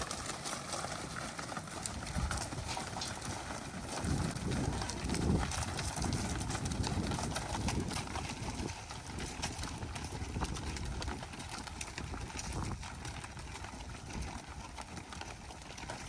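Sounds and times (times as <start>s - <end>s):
cattle hooves knocking: 0.0s - 16.0s.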